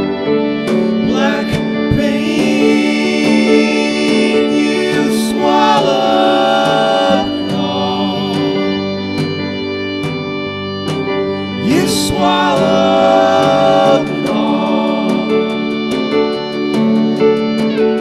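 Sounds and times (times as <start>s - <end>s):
band playing live: 0.0s - 18.0s.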